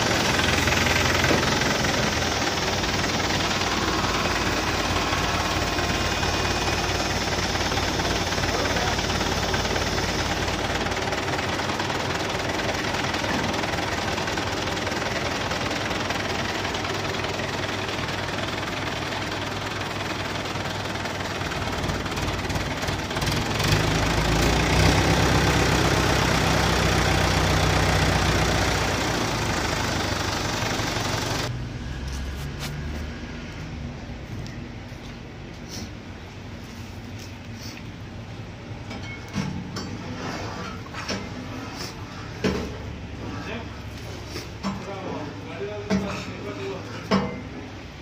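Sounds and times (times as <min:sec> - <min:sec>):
crane engine running: 0:00.0 - 0:39.4.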